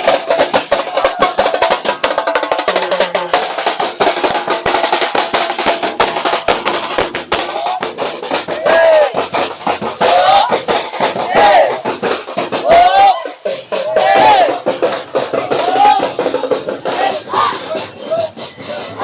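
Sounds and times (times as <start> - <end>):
percussion band drumming: 0.0 - 19.0.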